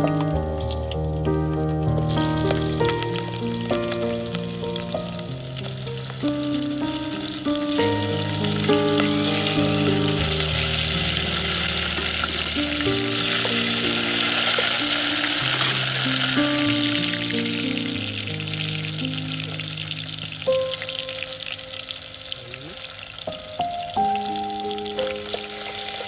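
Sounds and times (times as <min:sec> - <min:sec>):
food sizzling in a pan: 0:00.0 - 0:26.0
slow chord music: 0:00.0 - 0:26.0.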